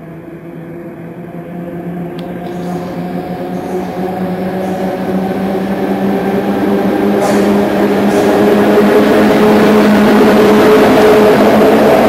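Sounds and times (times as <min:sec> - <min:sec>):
train electric hum: 0:00.0 - 0:12.0
train rolling noise: 0:00.0 - 0:12.0.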